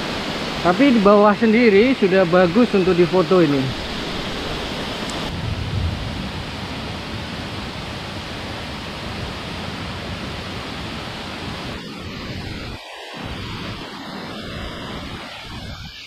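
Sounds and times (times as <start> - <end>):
waterfall roaring: 0.0 - 15.7.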